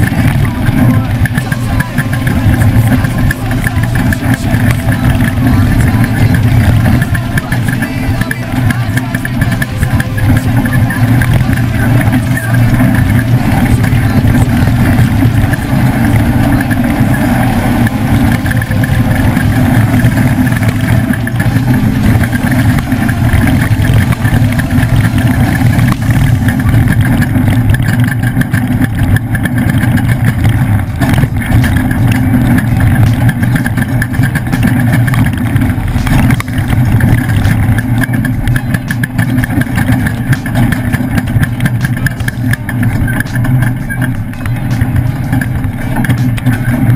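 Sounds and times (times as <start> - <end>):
truck engine droning: 0.0 - 46.9.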